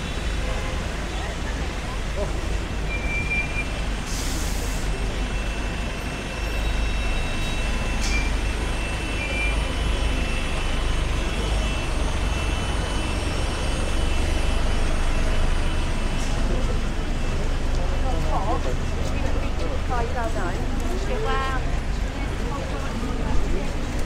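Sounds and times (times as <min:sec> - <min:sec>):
bus and car engines rumbling: 0:00.0 - 0:24.0
road noise on wet road: 0:00.0 - 0:24.0.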